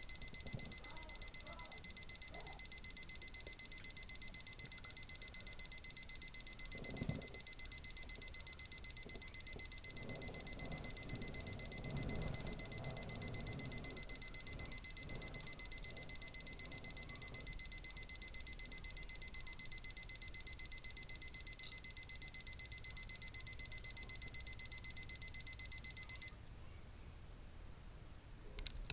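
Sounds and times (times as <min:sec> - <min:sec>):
alarm clock beeping: 0:00.0 - 0:26.3.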